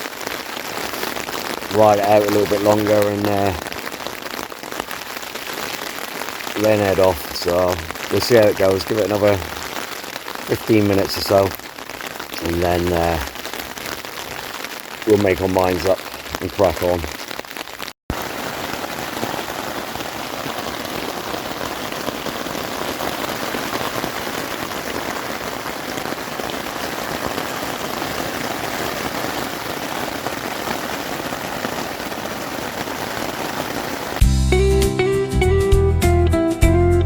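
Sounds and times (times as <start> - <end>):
rain falling on a tent: 0.0 - 34.2.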